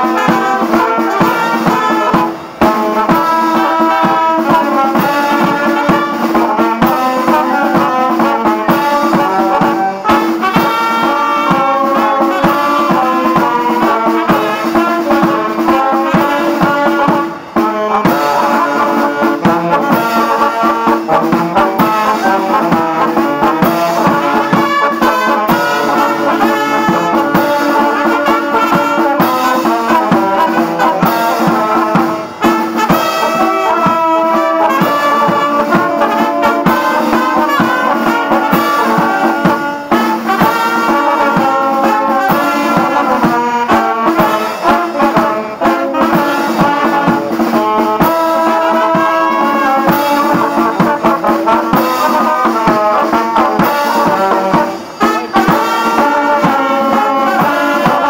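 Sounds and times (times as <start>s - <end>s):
wind band playing a tune: 0.0s - 58.0s.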